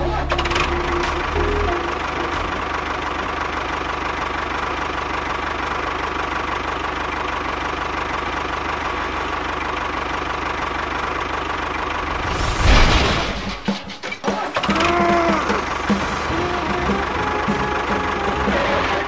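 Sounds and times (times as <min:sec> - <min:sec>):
tractor engine knocking: 0:00.2 - 0:12.2, 0:14.2 - 0:18.9.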